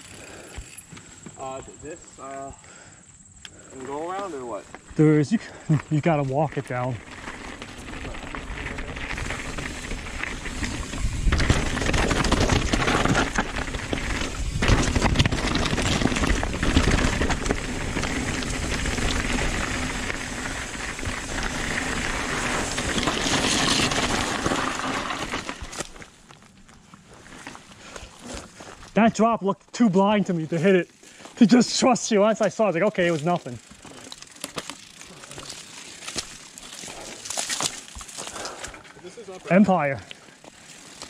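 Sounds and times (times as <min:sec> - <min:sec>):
bike tyres rolling over dirt: 0:00.0 - 0:41.0
bike frame and chain rattling: 0:05.2 - 0:29.3, 0:29.9 - 0:41.0.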